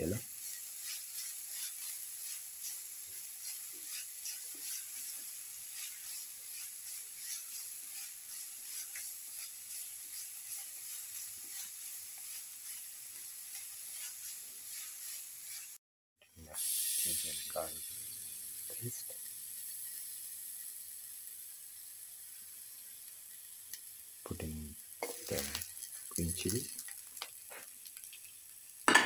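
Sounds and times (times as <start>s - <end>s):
shallots sizzling in hot oil: 0.0s - 29.0s.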